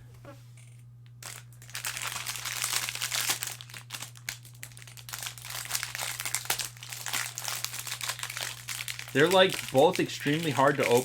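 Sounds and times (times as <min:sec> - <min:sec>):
foil wrapper crinkling and tearing: 0:01.2 - 0:11.0.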